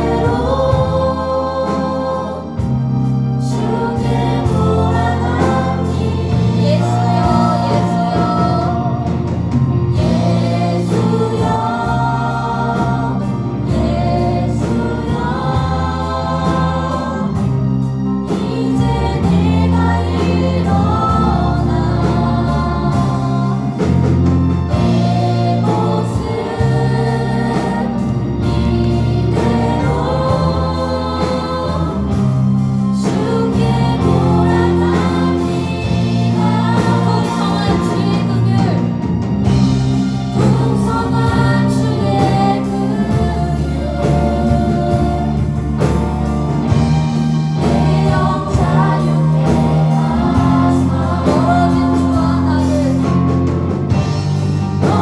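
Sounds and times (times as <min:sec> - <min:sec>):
band with steady bass line: 0:00.0 - 0:55.0
choir singing: 0:00.0 - 0:55.0.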